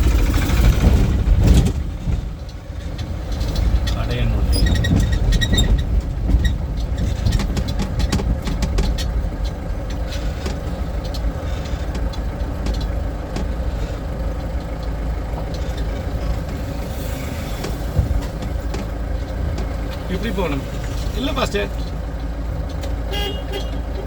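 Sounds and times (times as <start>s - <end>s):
light rattles: 0.0s - 24.0s
vehicle engine and road rumble: 0.0s - 24.0s.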